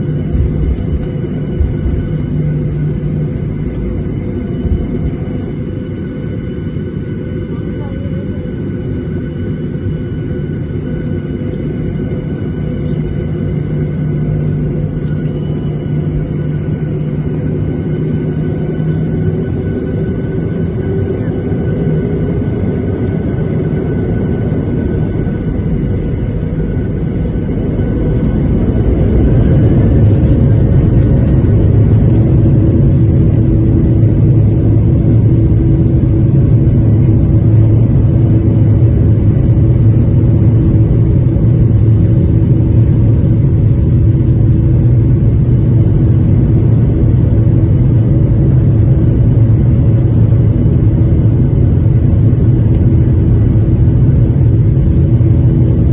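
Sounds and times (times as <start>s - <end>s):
jet engine whine: 0.0s - 55.9s
jet engines rumbling: 0.0s - 55.9s.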